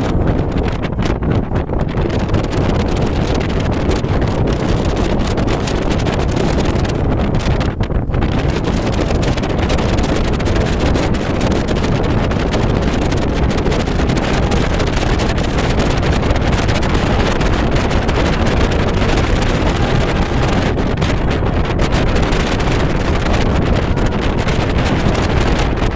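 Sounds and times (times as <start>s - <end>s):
strong wind buffeting microphone: 0.0s - 25.9s.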